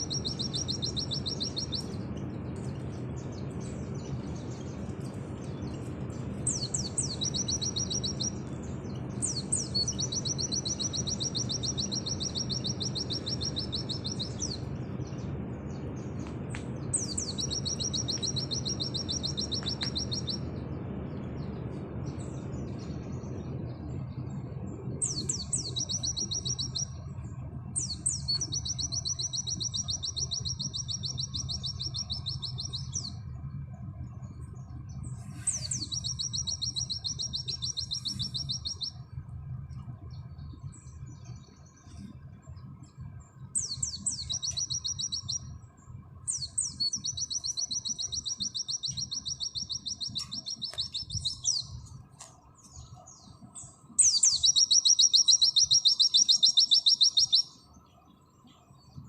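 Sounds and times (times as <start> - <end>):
bird singing trilled song: 0.0 - 59.0.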